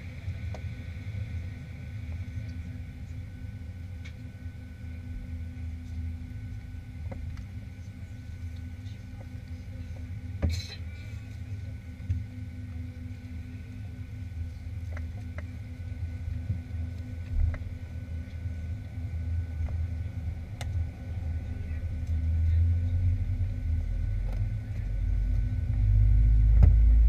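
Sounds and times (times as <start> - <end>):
aircraft cabin drone: 0.0 - 27.0
faint whine tones: 0.0 - 27.0.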